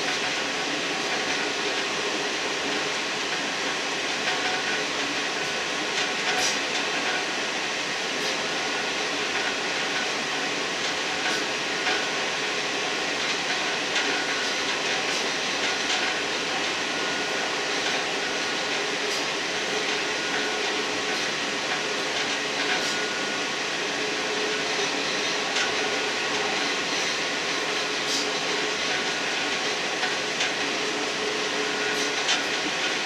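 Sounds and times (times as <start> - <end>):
train engine and wheel rumble: 0.0 - 33.0.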